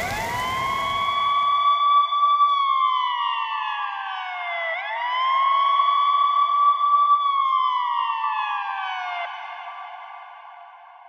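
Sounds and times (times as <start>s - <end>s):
ambulance siren wailing: 0.0s - 10.0s.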